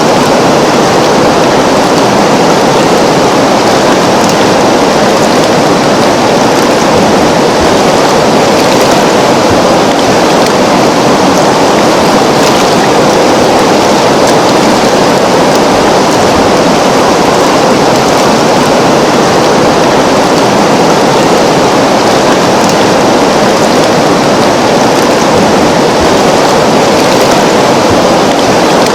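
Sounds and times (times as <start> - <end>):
river water flowing: 0.0 - 28.9.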